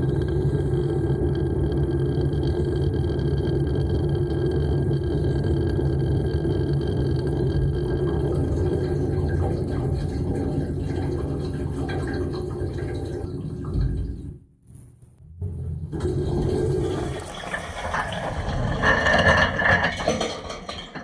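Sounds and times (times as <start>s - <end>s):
dishwasher pump rumble: 0.0s - 14.4s, 15.4s - 21.0s.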